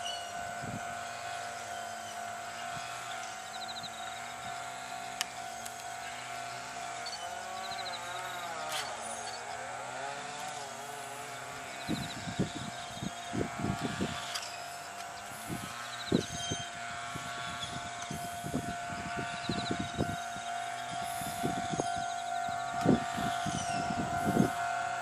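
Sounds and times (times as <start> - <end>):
distant road traffic: 0.0 - 25.0.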